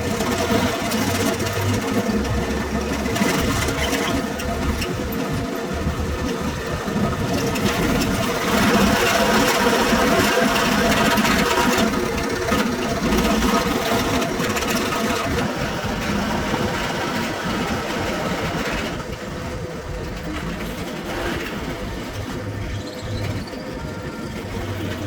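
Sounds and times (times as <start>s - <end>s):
motorised machine chattering: 0.0s - 25.0s.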